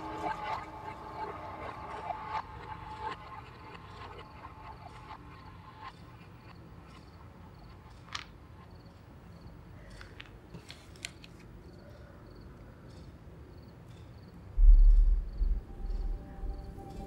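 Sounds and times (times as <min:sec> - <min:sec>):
crickets chirping: 0:00.0 - 0:10.6, 0:11.6 - 0:17.0.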